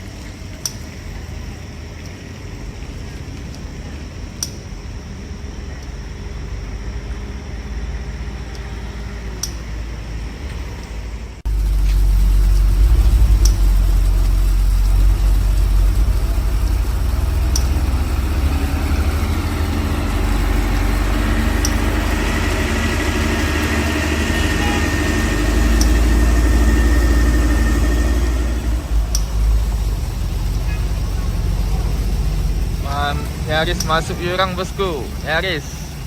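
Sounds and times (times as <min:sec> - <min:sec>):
diesel truck engine rumbling: 0:00.0 - 0:36.0
faint whine: 0:00.0 - 0:36.0.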